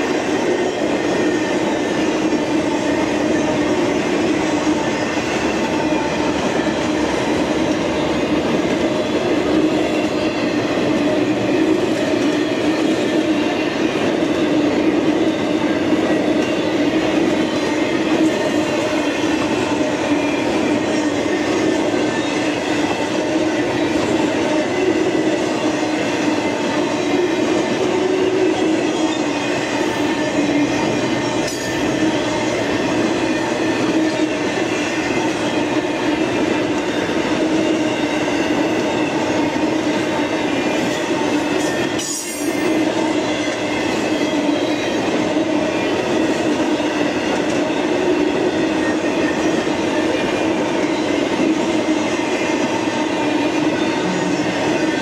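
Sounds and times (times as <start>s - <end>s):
freight train wheels on rail: 0.0s - 55.0s.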